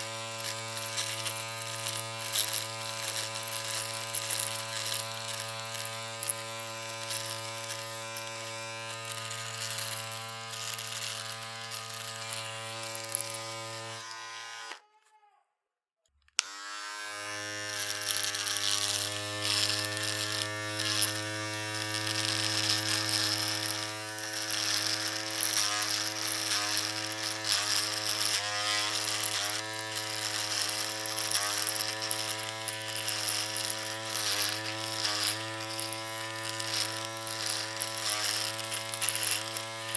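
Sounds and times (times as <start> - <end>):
electric shaver buzzing: 0.0 - 15.0, 16.4 - 39.9.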